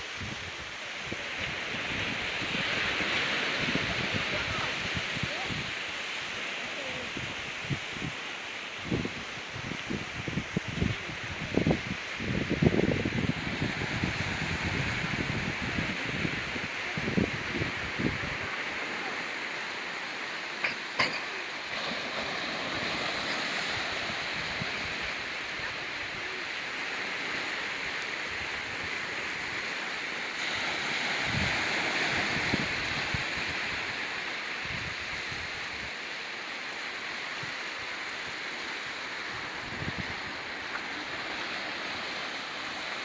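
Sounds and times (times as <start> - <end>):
waves washing over rocky beach: 0.0 - 43.0.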